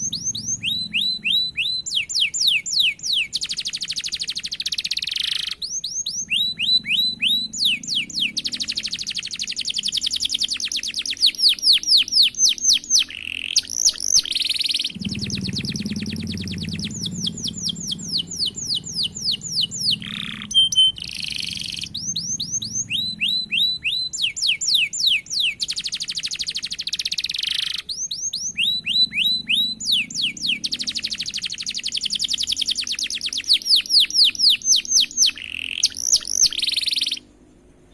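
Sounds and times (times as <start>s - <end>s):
canary singing rolls: 0.0s - 37.3s.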